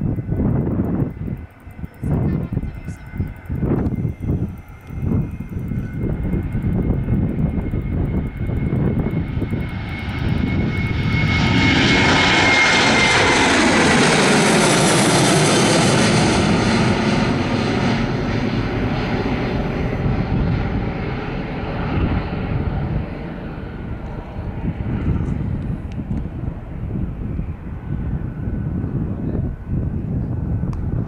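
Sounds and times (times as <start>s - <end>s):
high jet fan whine: 0.0s - 31.0s
jet engine roar: 0.0s - 31.0s.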